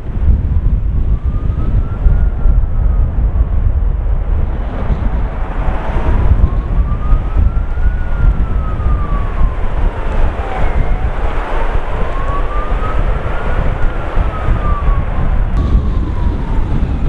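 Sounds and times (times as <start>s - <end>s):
wind buffeting microphone: 0.0s - 17.0s
siren wailing: 0.6s - 17.0s.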